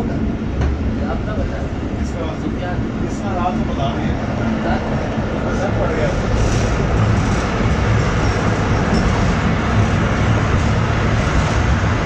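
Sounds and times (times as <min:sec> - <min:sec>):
train rolling on track: 0:00.0 - 0:12.0.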